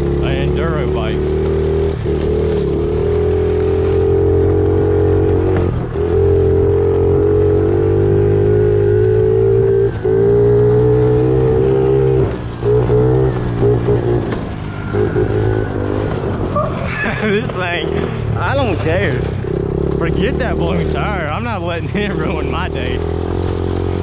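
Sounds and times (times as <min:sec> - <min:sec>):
pit bike engine running: 0:00.0 - 0:24.0.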